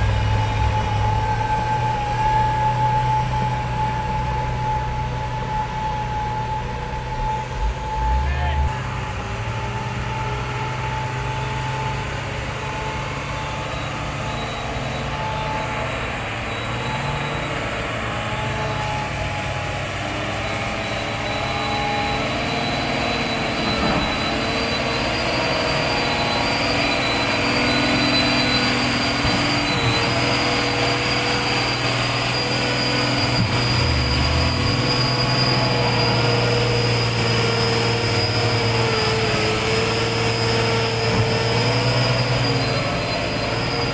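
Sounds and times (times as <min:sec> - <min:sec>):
diesel truck engine running hard: 0:00.0 - 0:43.9
thin high whine: 0:00.0 - 0:43.9.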